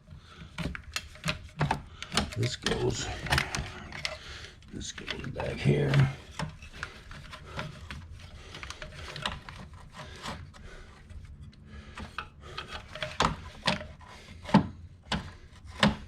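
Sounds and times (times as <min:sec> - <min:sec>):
part rubbing and scraping: 0:00.6 - 0:16.0.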